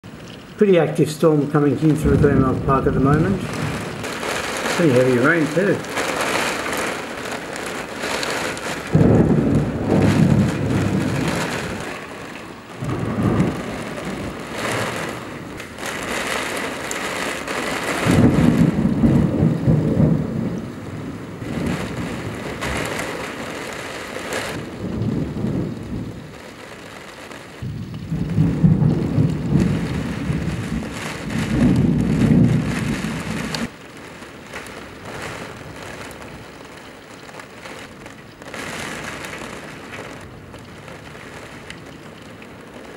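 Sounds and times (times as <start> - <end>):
heavy rain: 0.0 - 42.9
thunder rumbling: 0.0 - 42.9.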